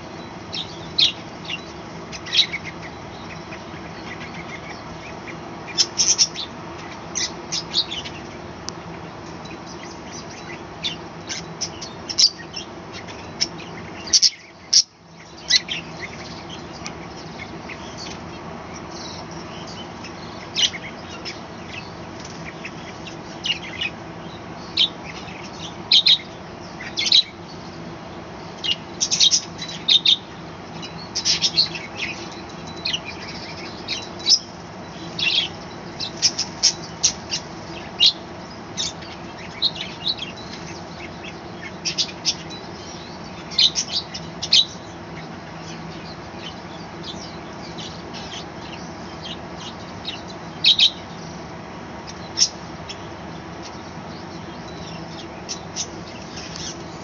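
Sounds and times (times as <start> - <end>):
budgerigars chirping: 0.0 - 57.0
steady low hum: 0.0 - 57.0.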